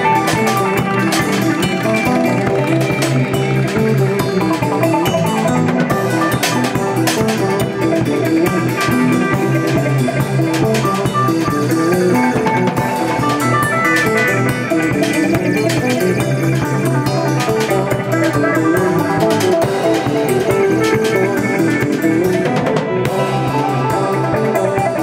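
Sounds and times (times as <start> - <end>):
bass: 0.0 - 25.0
drum kit: 0.0 - 25.0
plucked guitar notes: 0.0 - 25.0.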